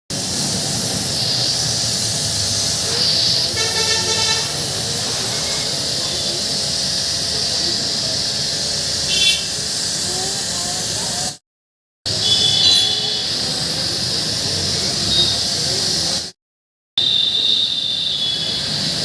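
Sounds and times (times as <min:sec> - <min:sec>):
pressure washer spraying water: 0:00.1 - 0:11.4, 0:12.1 - 0:16.4, 0:17.0 - 0:19.0.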